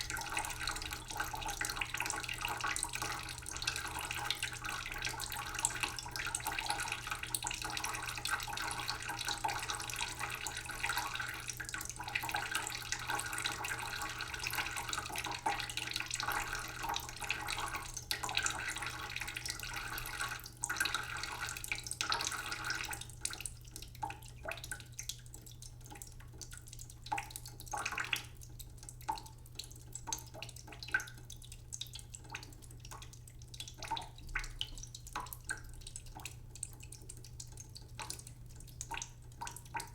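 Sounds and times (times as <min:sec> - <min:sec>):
tap water trickling into pot: 0:00.0 - 0:39.9
water drips and splashes: 0:00.0 - 0:39.9.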